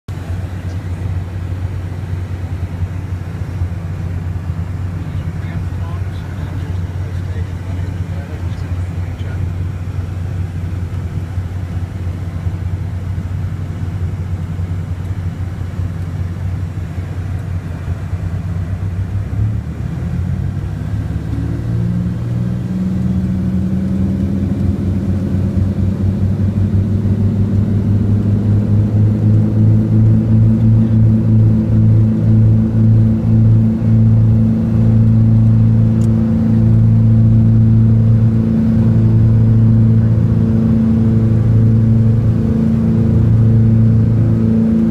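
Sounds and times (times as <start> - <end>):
twin aircraft engines: 0.0 - 44.9.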